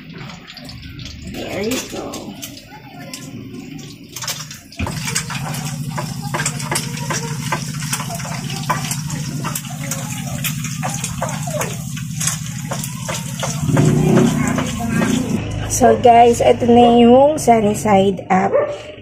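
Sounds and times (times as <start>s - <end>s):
egg sizzling in hot oil: 0.0s - 15.4s.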